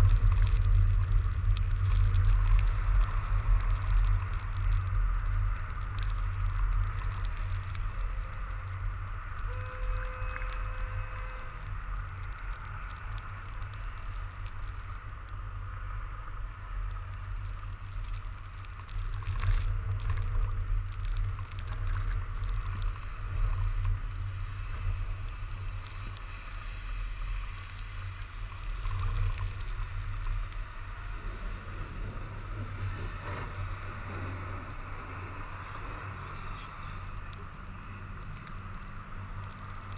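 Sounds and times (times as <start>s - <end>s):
bike tyres on snow: 0.0s - 39.9s
wind rumble on microphone: 0.0s - 39.9s.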